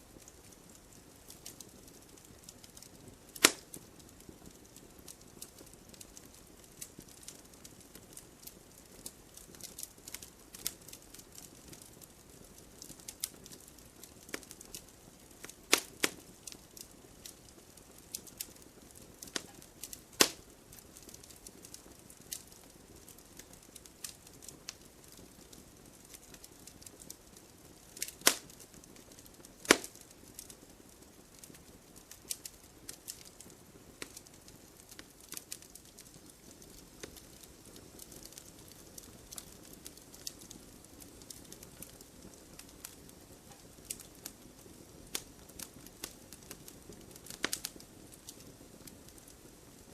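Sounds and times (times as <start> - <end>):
soft steady hiss of fire: 0.0 - 49.9
wood fire crackling and popping: 0.0 - 49.9.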